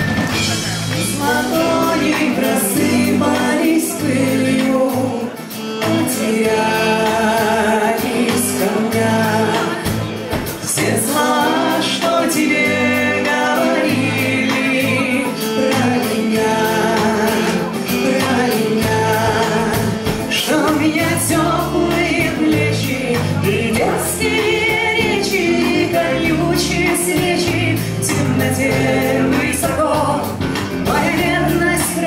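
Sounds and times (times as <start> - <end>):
bowed fiddle: 0.0 - 32.0
live folk-rock band playing: 0.0 - 32.0
person singing: 0.4 - 32.0.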